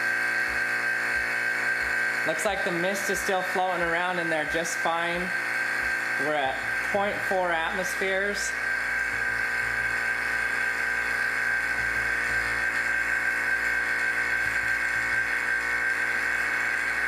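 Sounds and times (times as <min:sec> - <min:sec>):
vacuum pump humming and whining: 0:00.0 - 0:17.0.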